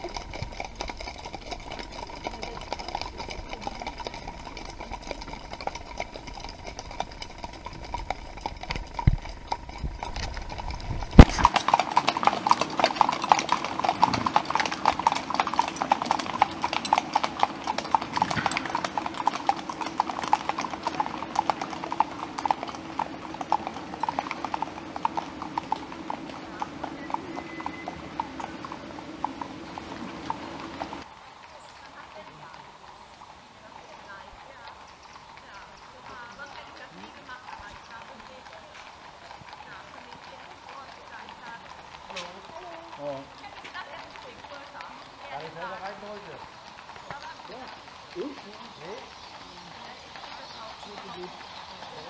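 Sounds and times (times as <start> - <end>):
horse hooves on paved road: 0.0 - 52.0.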